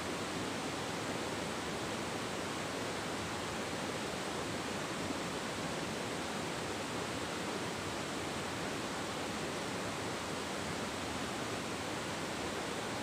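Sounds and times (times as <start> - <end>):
river water rushing over boulders: 0.0 - 13.0.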